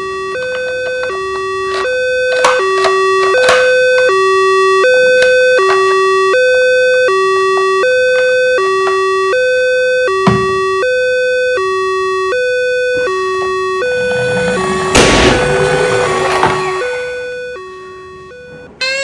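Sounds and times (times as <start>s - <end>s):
toy siren two-tone wail: 0.0s - 14.6s, 16.2s - 19.0s.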